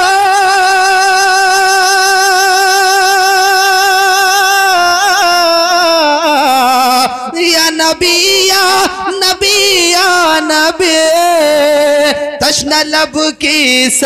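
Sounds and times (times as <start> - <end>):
man singing: 0.0 - 14.0.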